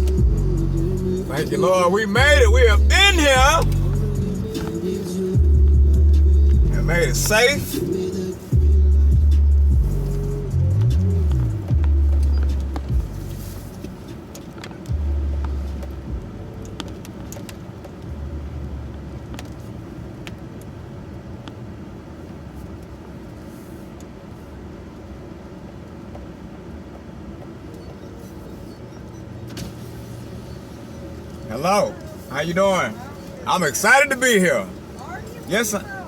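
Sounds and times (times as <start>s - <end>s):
truck engine rumbling: 0.0s - 36.0s.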